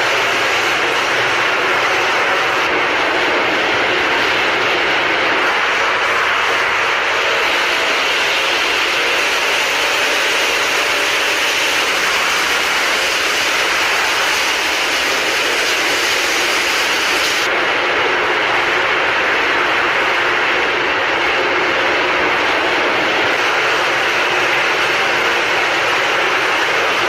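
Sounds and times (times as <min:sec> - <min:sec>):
road repair machine running: 0:00.0 - 0:27.0.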